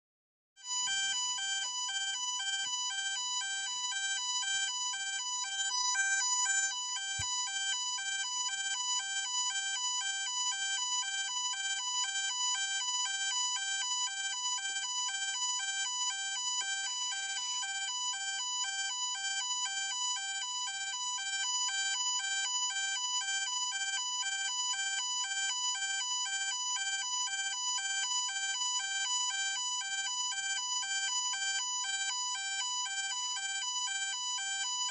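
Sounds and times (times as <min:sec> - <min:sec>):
two-tone ambulance siren: 0:00.6 - 0:34.9.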